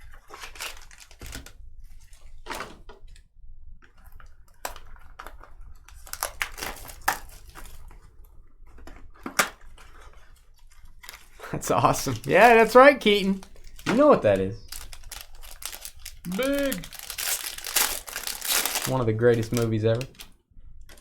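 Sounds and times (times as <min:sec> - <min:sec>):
cards and packaging rustling: 0:00.0 - 0:02.2, 0:04.0 - 0:21.0.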